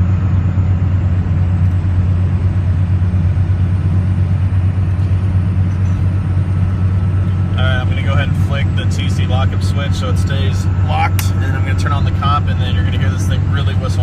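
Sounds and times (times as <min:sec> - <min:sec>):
diesel engine low drone: 0:00.0 - 0:14.0.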